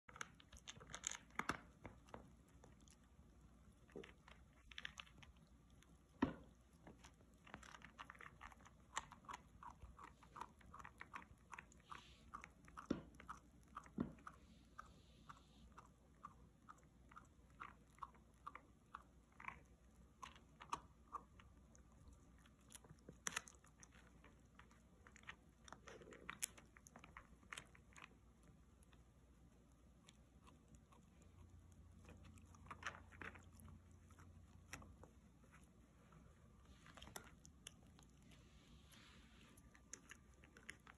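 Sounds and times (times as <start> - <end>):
puppy chewing dry chew: 0.0 - 40.9.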